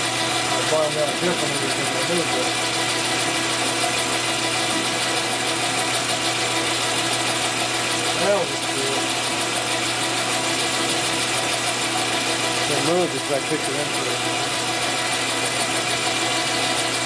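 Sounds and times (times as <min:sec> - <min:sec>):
metal lathe whirring: 0:00.0 - 0:17.0.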